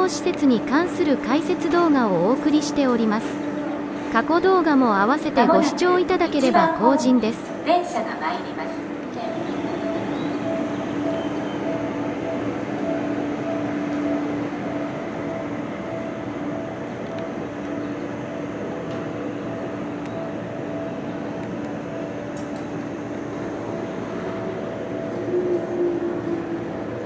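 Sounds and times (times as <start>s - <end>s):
train electrical hum: 0.0s - 27.0s
train running noise: 0.0s - 27.0s.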